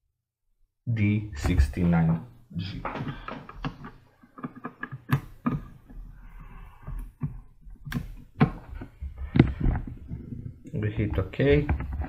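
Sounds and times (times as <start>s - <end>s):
sharp clicks and knocks: 1.4s - 6.0s, 6.8s - 12.0s.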